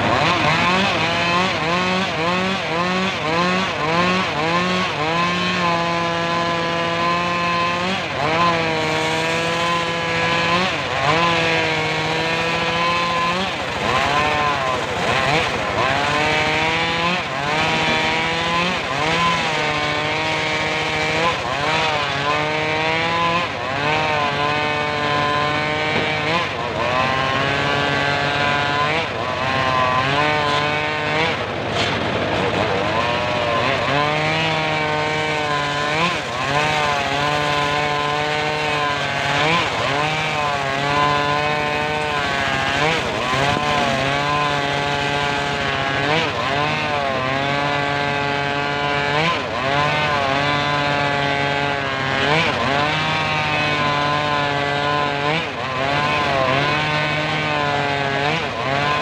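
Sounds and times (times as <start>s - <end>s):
circular saw cutting wood: 0.0s - 59.0s.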